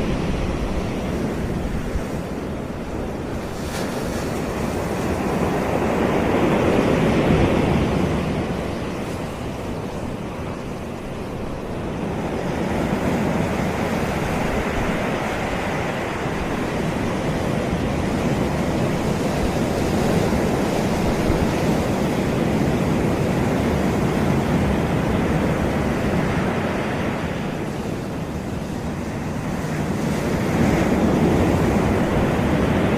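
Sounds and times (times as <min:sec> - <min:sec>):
surf washing up beach: 0:00.0 - 0:32.9
wind on microphone: 0:00.0 - 0:32.9.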